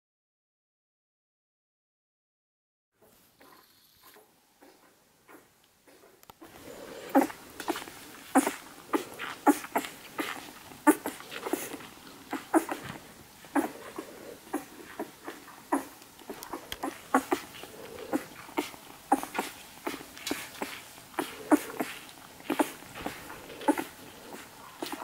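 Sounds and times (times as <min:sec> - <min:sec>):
puppies suckling: 0:03.0 - 0:25.0.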